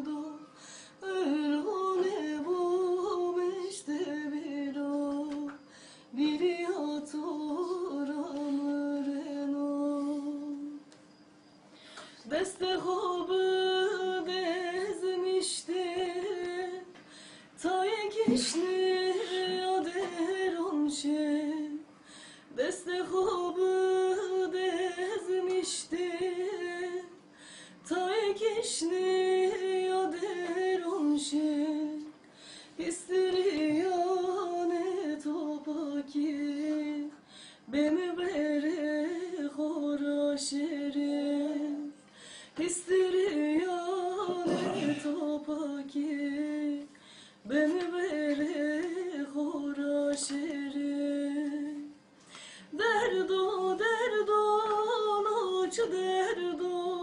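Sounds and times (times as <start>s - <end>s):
woman singing unaccompanied: 0.0s - 11.0s, 12.1s - 57.0s.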